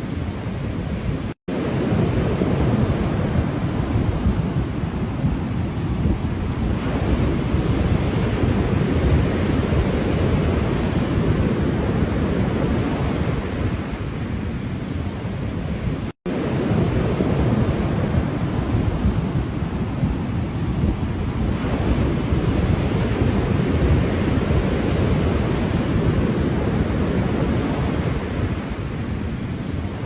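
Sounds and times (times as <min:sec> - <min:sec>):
ocean surf: 0:00.0 - 0:30.0
wind on microphone: 0:00.0 - 0:30.0.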